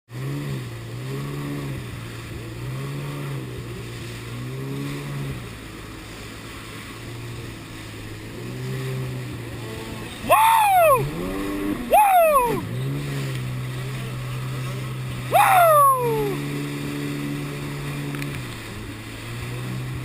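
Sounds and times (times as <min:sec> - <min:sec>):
jet ski engine revving: 0:00.1 - 0:20.0.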